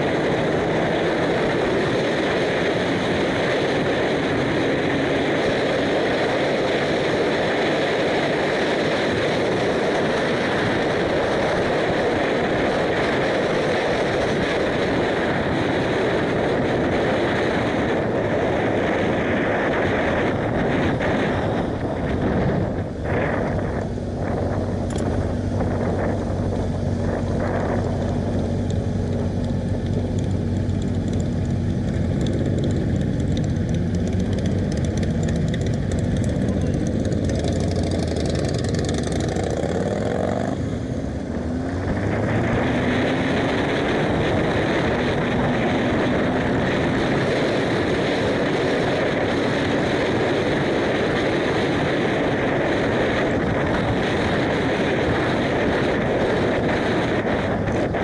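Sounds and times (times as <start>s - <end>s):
motorcycle engines running: 0.0s - 58.0s
wind rushing over microphone: 0.0s - 58.0s.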